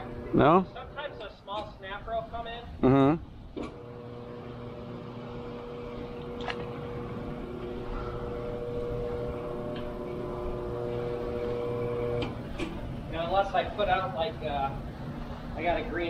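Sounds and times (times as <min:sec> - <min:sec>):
motor humming: 0:00.0 - 0:01.3, 0:02.8 - 0:16.0.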